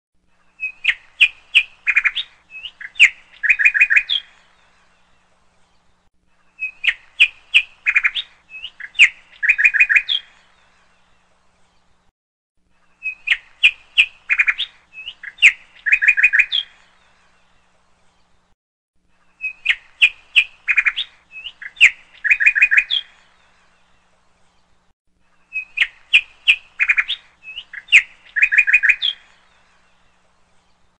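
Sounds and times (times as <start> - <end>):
bird chirps and trills: 0.3 - 12.0, 12.8 - 18.4, 19.1 - 30.9.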